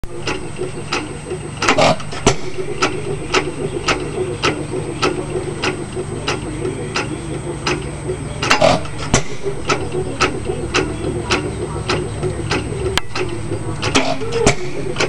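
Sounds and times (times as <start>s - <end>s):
engine firing stroke: 0.0s - 15.0s
stationary engine clicking: 0.0s - 15.0s.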